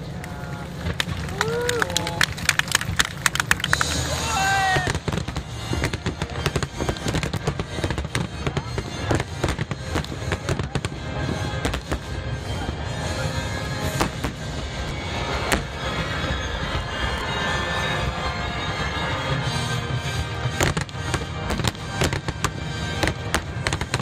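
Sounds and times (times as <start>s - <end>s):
fireworks crackling and banging: 0.0s - 24.0s
steady low rumble: 0.0s - 24.0s
music: 2.5s - 24.0s.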